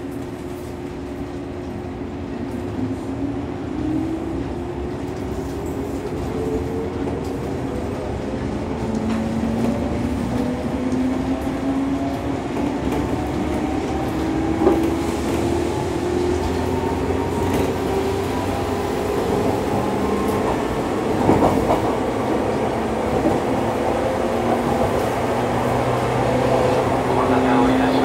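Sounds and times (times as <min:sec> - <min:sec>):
train running noise: 0:00.0 - 0:28.0.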